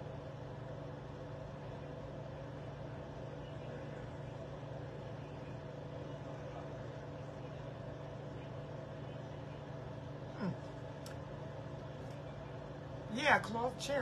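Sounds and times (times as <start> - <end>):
quiet room hum with tones: 0.0 - 14.0.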